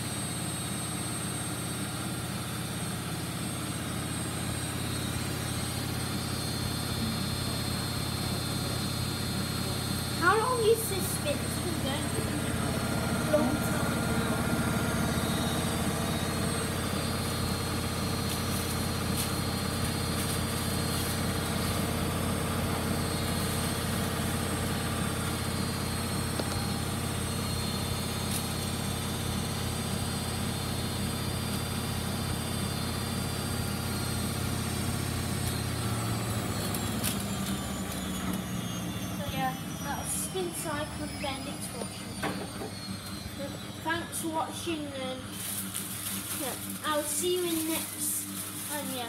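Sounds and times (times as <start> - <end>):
washing machine spin cycle drone: 0.0 - 49.0.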